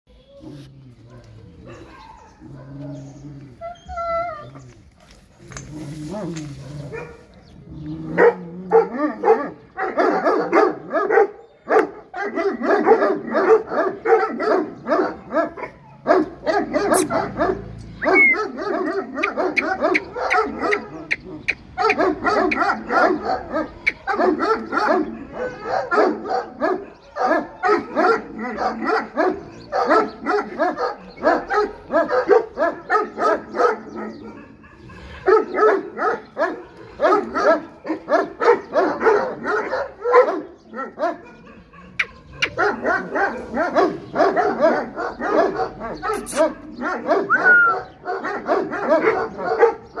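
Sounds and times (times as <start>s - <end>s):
dog barking: 6.2s - 7.3s, 8.1s - 50.0s.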